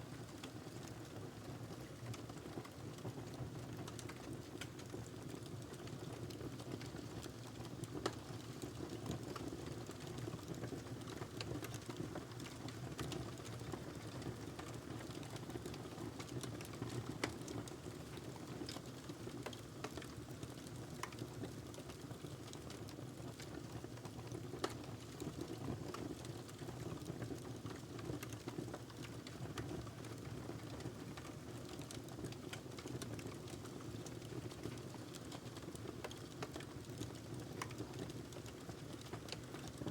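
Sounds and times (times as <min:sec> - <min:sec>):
wood fire crackling and popping: 0:03.7 - 0:39.9.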